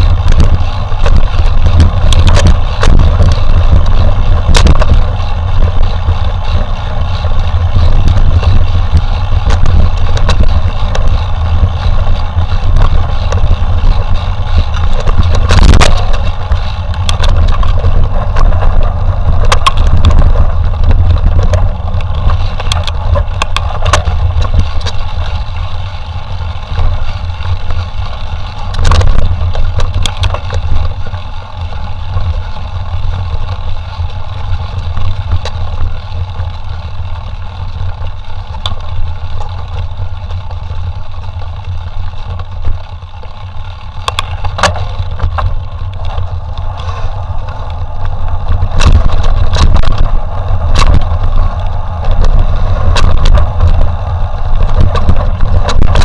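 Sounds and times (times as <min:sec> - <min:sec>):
bike knocks and rattles: 0:00.0 - 0:56.0
low rumble of wind and vibration: 0:00.0 - 0:56.0.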